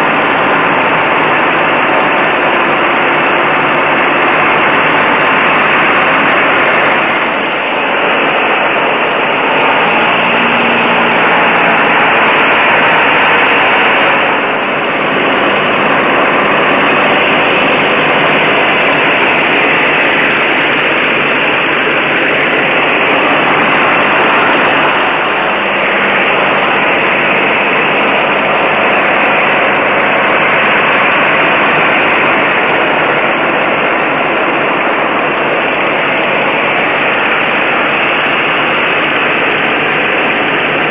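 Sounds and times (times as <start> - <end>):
aircraft engine and propeller: 0.0 - 40.9
rushing air: 0.0 - 40.9.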